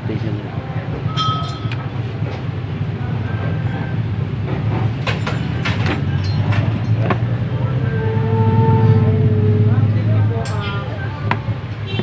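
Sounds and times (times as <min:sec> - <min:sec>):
low mechanical hum: 0:00.2 - 0:12.0.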